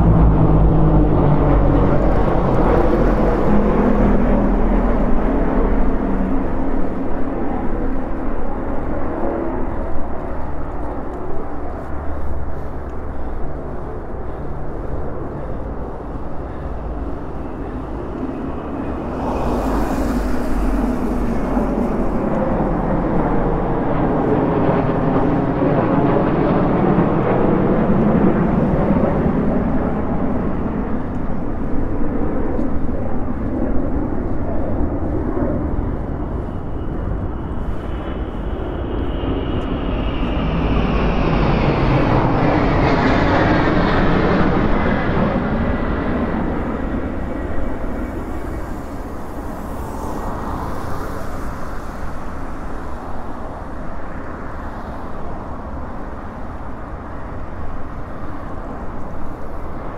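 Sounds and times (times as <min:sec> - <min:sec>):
aircraft engines flypast: 0:00.0 - 0:59.9
wind rumble on microphone: 0:00.0 - 0:59.9.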